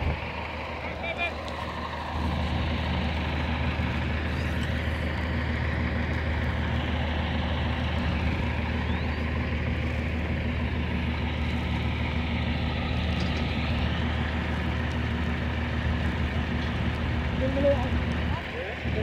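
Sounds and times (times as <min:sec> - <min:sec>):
engine humming with hiss: 0:00.0 - 0:19.0.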